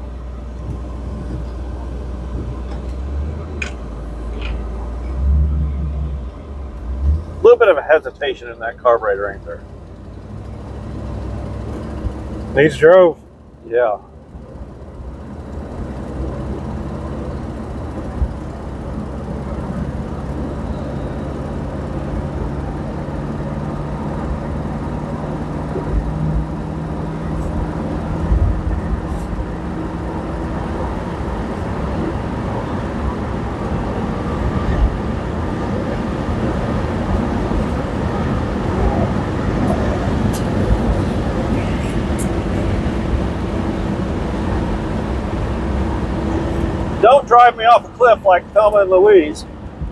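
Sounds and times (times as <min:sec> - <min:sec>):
car engine drone: 0:00.0 - 0:49.9
road and wind noise: 0:00.0 - 0:49.9.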